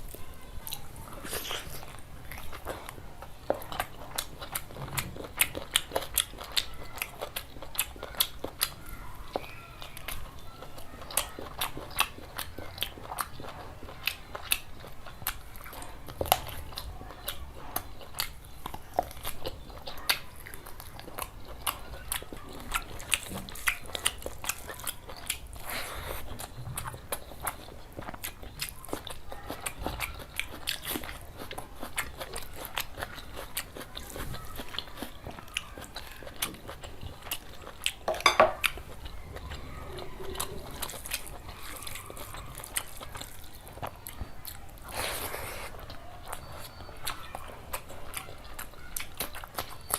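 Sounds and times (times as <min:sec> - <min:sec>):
chewing and biting food: 0:00.0 - 0:49.9.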